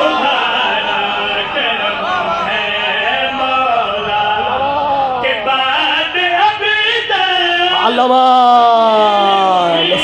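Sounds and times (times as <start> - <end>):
man singing through loudspeakers: 0.0 - 10.0.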